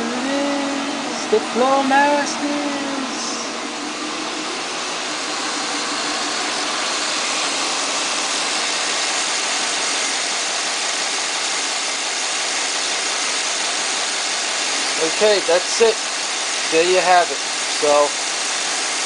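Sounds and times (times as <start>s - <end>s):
car engine idling: 0.0s - 18.1s.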